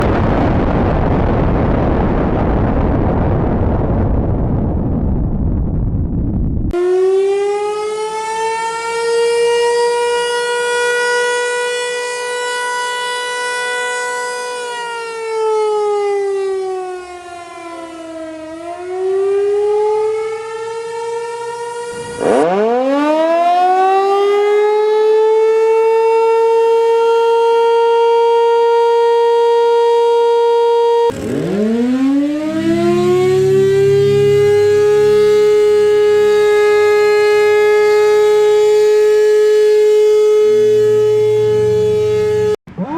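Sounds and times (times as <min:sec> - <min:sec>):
warning sirens wailing: 0:06.7 - 0:42.9.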